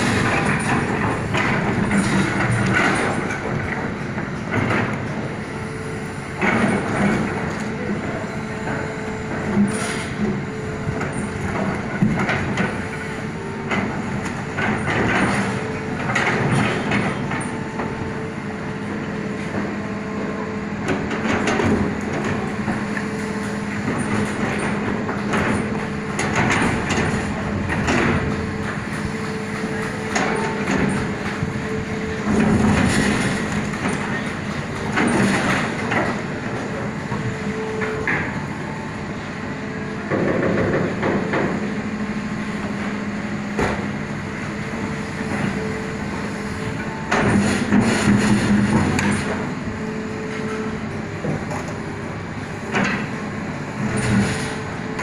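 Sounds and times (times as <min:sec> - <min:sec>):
excavator engine drone: 0:00.0 - 0:55.0.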